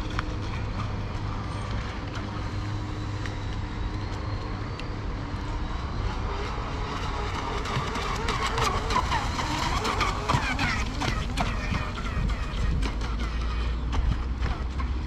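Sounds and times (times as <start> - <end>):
electric boat motor whine: 0.0 - 15.0.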